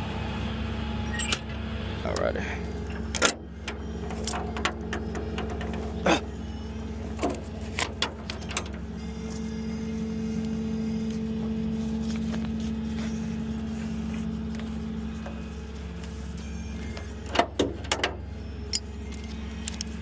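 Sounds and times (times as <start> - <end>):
steady whine: 0.0 - 20.0
truck engine running: 0.0 - 20.0.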